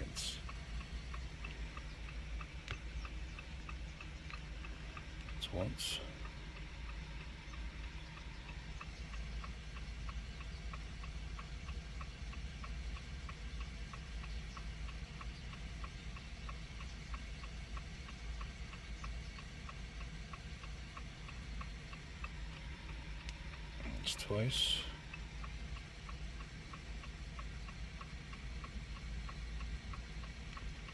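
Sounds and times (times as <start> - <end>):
steady ticking: 0.0 - 30.9.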